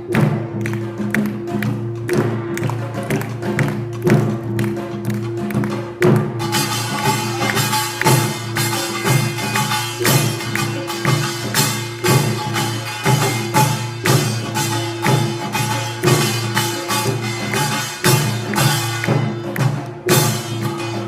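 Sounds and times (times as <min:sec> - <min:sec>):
percussion band playing: 0:00.0 - 0:21.0.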